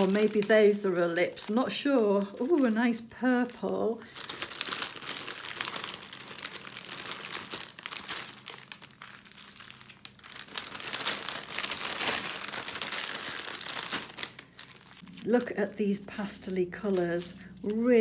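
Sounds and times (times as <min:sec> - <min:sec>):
plastic bags crinkling: 0:00.0 - 0:18.0
plastic wrap rustling: 0:00.0 - 0:18.0.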